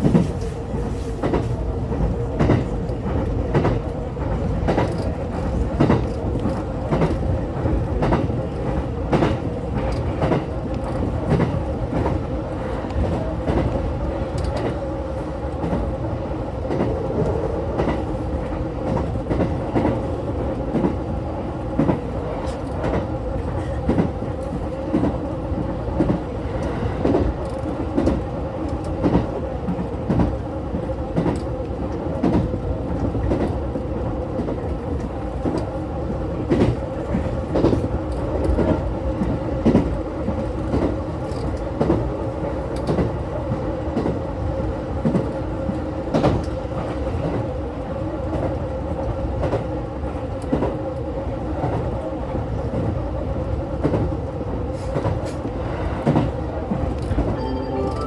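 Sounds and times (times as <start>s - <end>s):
train wheels clickety-clack: 0.0s - 57.4s
train rumble and hum: 0.0s - 58.0s.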